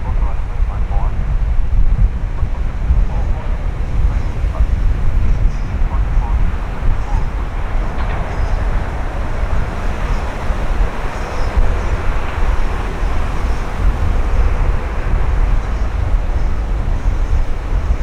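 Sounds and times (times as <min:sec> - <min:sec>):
wind buffeting microphone: 0:00.0 - 0:18.0
jet airliner rushing: 0:02.1 - 0:18.0.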